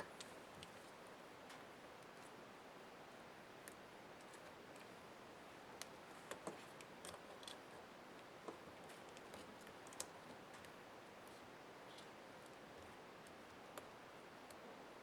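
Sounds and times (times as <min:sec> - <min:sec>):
quiet hiss: 0:00.0 - 0:15.0.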